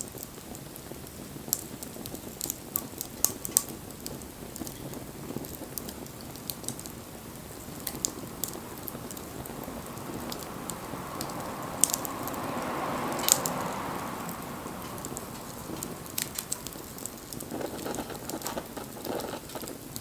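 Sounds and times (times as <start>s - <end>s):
sharp fire pops: 0.0s - 12.4s, 13.1s - 13.6s, 14.7s - 20.0s
wood fire crackling: 0.0s - 20.0s.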